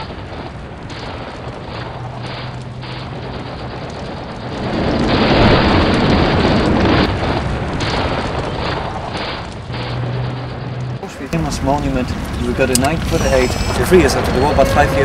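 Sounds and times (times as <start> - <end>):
explosions booming: 0.0 - 15.0
sharp bangs: 0.0 - 15.0.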